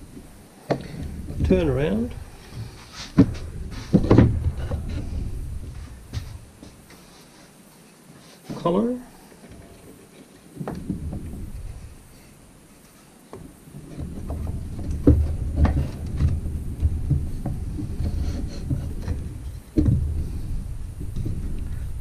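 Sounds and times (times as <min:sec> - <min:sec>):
low handling rumble: 0:00.0 - 0:06.9, 0:10.6 - 0:12.7, 0:13.4 - 0:22.0
wooden knocks and rubbing: 0:00.7 - 0:07.4, 0:09.5 - 0:12.0, 0:13.3 - 0:22.0.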